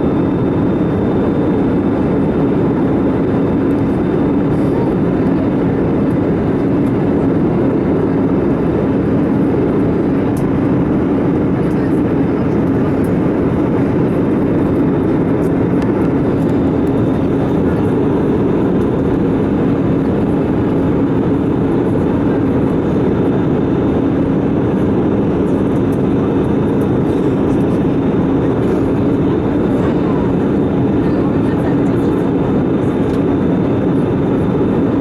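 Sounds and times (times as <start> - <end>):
aircraft cabin engine rush: 0.0 - 35.0.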